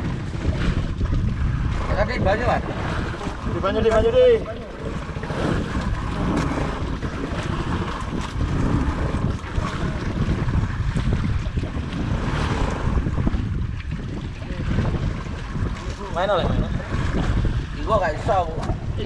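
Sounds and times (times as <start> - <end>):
sea waves washing: 0.0 - 19.0
wind rumbling on microphone: 0.0 - 19.0.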